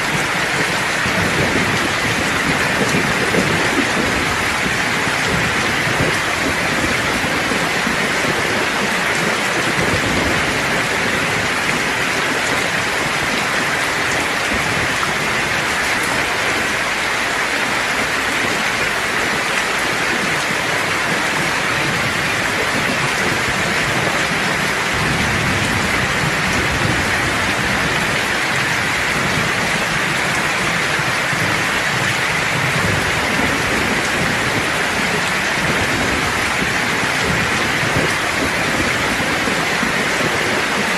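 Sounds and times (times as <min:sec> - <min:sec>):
rain hissing: 0:00.0 - 0:40.9
thunder rumbling: 0:00.0 - 0:40.9.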